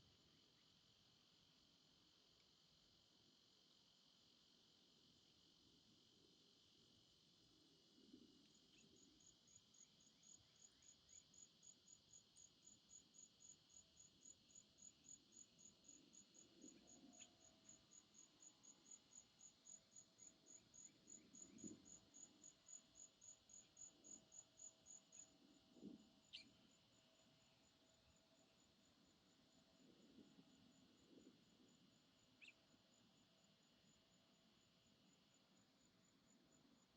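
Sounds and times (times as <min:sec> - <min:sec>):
insect chirping: 0:00.0 - 0:36.9
insect drone: 0:00.0 - 0:36.9.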